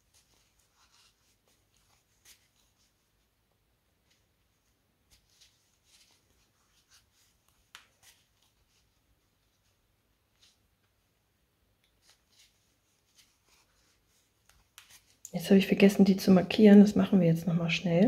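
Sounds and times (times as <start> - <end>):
cord rustling over crochet hook: 0.0 - 11.0, 11.8 - 15.4.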